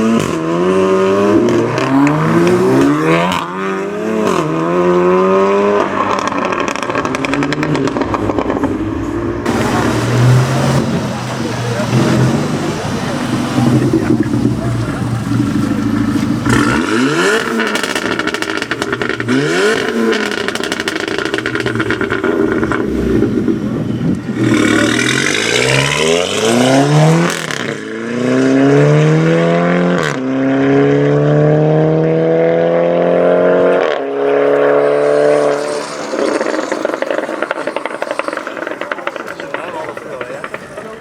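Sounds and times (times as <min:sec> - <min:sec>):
car engine revving and accelerating: 0:00.0 - 0:41.0.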